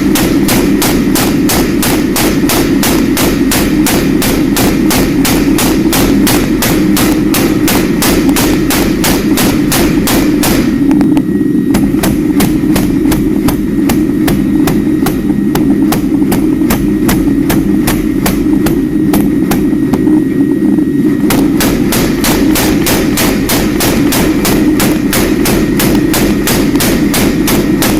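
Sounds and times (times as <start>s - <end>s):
continuous low drone: 0.0s - 27.9s.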